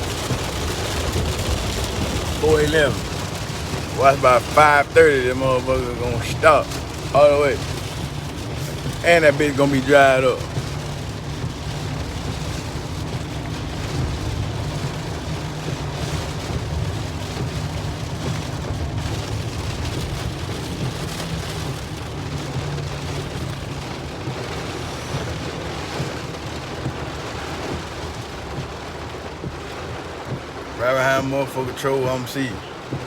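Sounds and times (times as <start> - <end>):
low rumble: 0.0 - 30.8
heavy rain hissing: 0.0 - 33.0.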